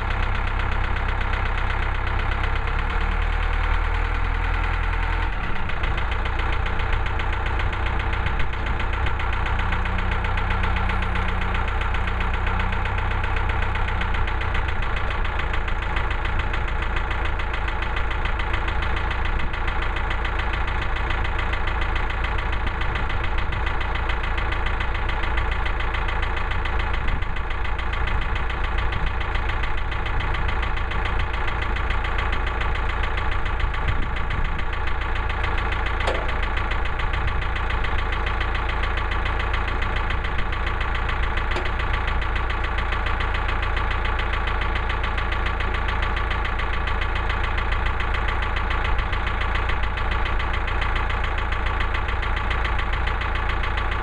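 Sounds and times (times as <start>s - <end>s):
sawmill gas engine running: 0.0s - 54.0s.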